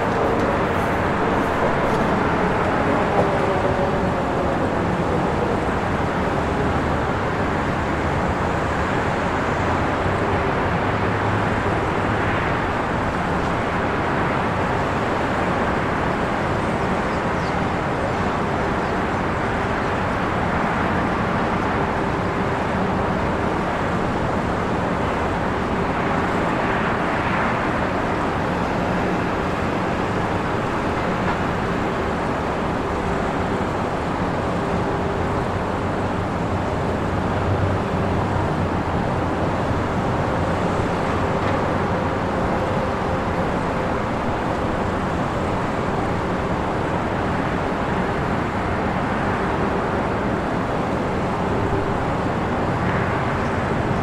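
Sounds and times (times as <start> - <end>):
distant road noise: 0.0 - 54.0.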